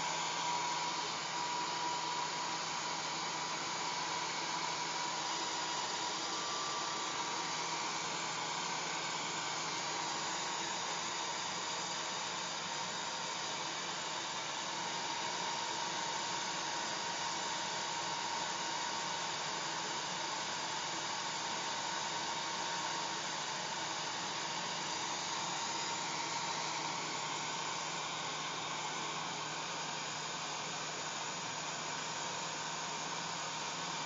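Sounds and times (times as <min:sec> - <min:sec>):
hair dryer running: 0:00.0 - 0:34.0.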